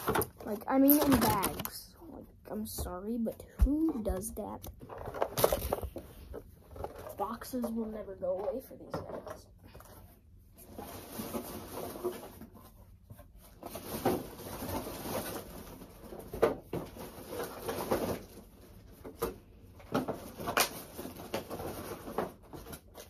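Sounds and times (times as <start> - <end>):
plastic bags and cardboard rustling: 0.0 - 23.0.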